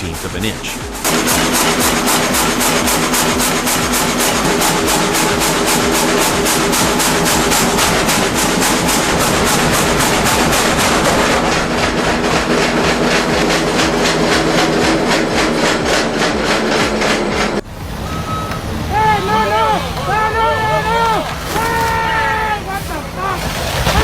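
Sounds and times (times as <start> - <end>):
sawmill machine hum: 0.0 - 24.0.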